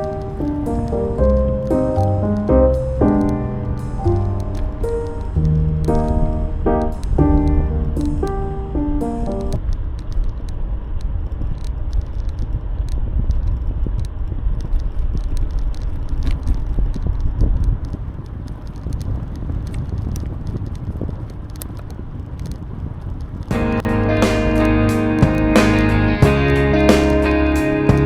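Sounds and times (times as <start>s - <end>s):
wind rumbling on microphone: 0.0s - 23.8s.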